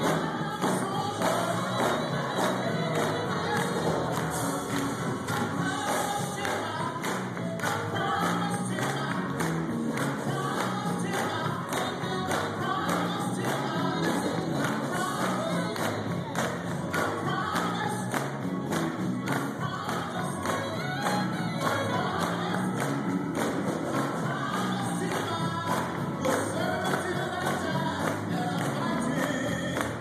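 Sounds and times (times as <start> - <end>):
choir singing: 0.0 - 9.4, 10.1 - 18.1, 19.5 - 30.0
bass line: 0.0 - 30.0
percussion beat: 0.0 - 30.0.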